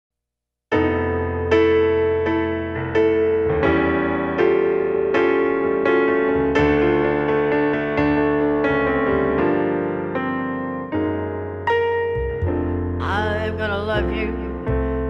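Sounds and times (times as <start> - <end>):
piano playing slow chords: 0.7 - 15.0.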